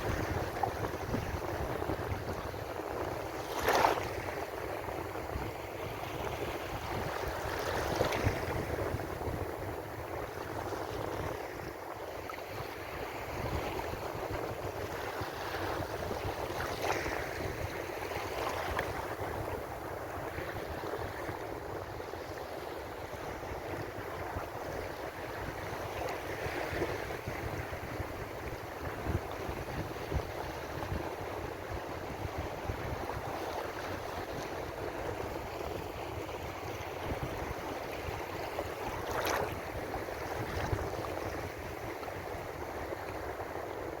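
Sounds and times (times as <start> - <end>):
ocean waves breaking: 0.0 - 44.0.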